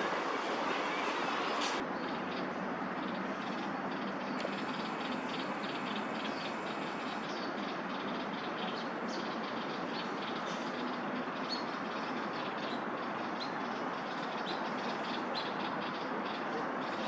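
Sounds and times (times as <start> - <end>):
city traffic roar: 0.0 - 17.0
small birds chirping: 0.9 - 17.0.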